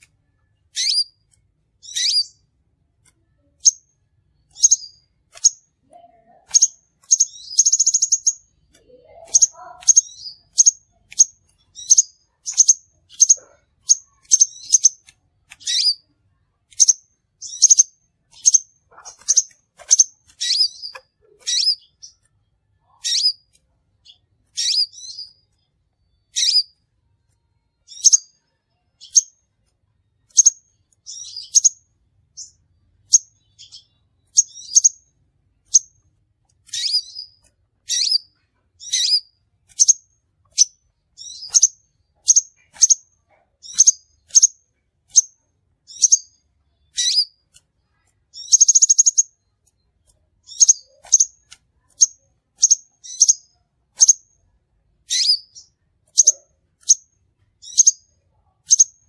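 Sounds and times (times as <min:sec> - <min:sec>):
bird trill: 0:00.6 - 0:01.2, 0:01.8 - 0:02.5, 0:03.3 - 0:16.1, 0:16.7 - 0:26.8, 0:27.7 - 0:29.4, 0:30.3 - 0:54.4, 0:55.0 - 0:59.0
bird chipping: 0:00.6 - 0:02.5, 0:03.4 - 0:16.1, 0:16.7 - 0:26.8, 0:27.9 - 0:28.4, 0:29.0 - 0:29.4, 0:30.3 - 0:31.8, 0:32.4 - 0:36.0, 0:36.6 - 0:54.3, 0:55.0 - 0:59.0.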